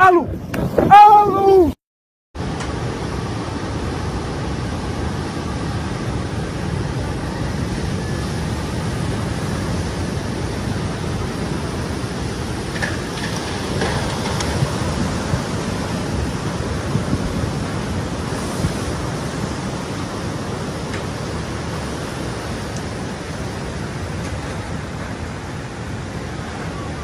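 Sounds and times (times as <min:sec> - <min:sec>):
floodwater rushing: 0:02.4 - 0:27.0.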